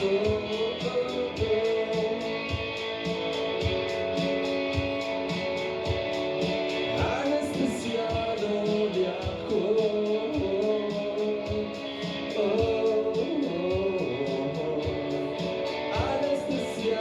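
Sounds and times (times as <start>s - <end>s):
lead vocal singing: 0.0s - 4.4s, 6.4s - 17.0s
drum beat with cymbals: 0.0s - 17.0s
guitars: 0.0s - 17.0s.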